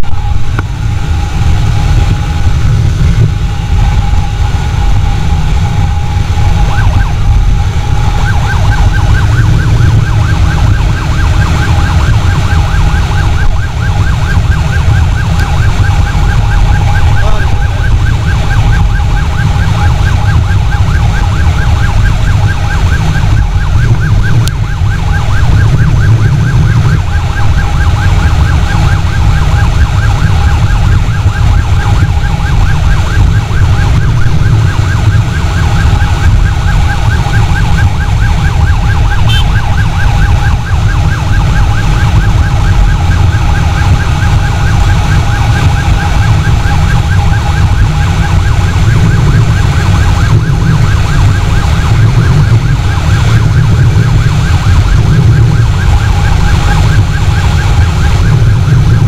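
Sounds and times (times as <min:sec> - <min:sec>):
motorcycle engine at speed: 0:00.0 - 0:59.0
siren warbling: 0:00.0 - 0:59.0
wind rumble: 0:00.0 - 0:59.0.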